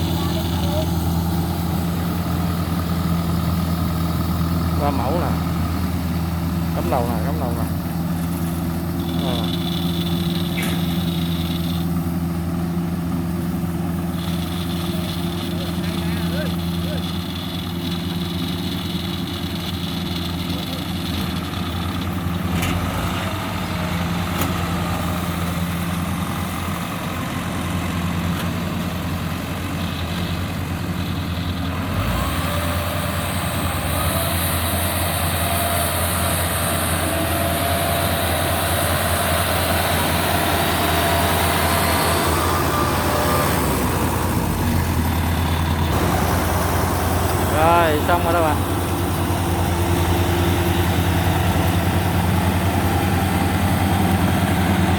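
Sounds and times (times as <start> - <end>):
harvester engine droning: 0.0 - 54.9.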